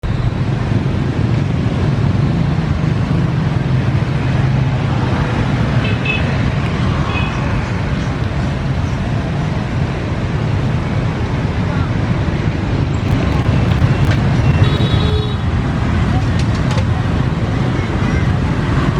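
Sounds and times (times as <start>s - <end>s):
street traffic rumble: 0.0s - 18.9s.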